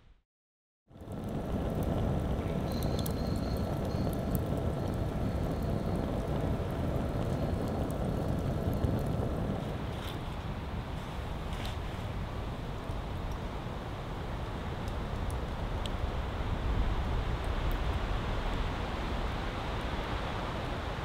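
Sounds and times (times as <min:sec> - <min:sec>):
fire crackles and pops: 0:00.9 - 0:21.0
wood fire burning: 0:00.9 - 0:21.0.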